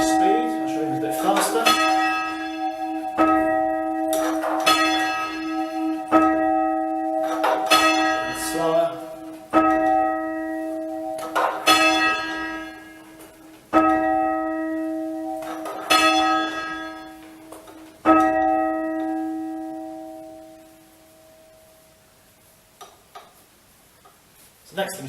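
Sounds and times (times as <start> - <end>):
church bell ringing: 0.0 - 22.0.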